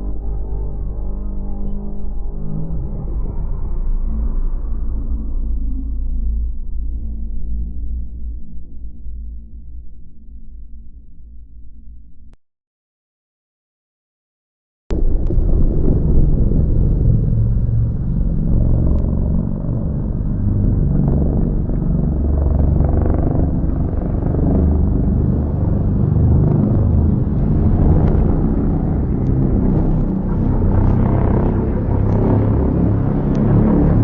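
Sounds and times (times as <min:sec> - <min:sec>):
loud low rumble: 0:00.0 - 0:11.8, 0:14.9 - 0:34.0.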